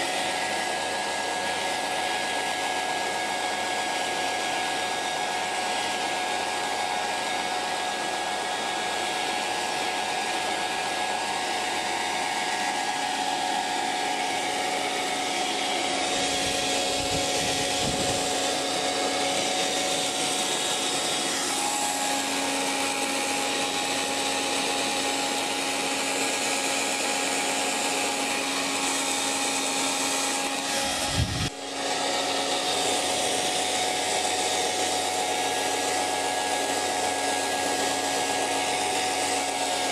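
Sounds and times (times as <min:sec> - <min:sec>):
hairdryer running: 0:00.0 - 0:39.9.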